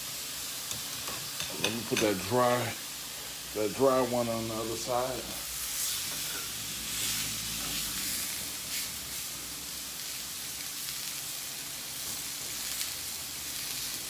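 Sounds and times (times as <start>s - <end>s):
steaks sizzling in a skillet: 0.0s - 14.0s.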